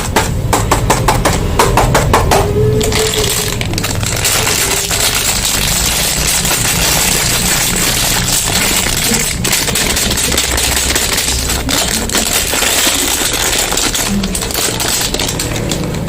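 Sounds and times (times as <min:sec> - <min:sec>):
wrappers crinkling: 0:02.8 - 0:16.0.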